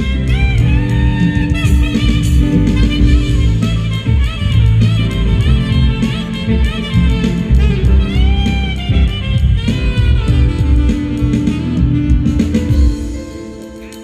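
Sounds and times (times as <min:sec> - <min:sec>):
backing track with bass and drums: 0:00.0 - 0:14.0
saxophone playing jazzy melody: 0:00.0 - 0:14.0.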